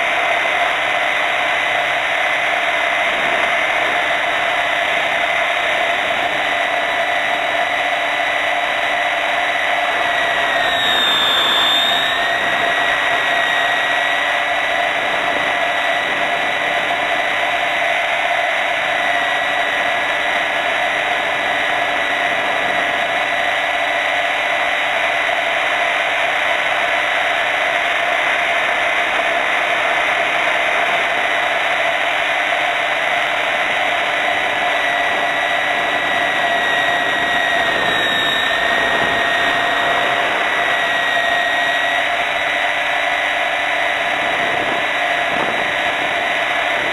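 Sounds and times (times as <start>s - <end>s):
model helicopter rotor whining: 0.0s - 46.9s.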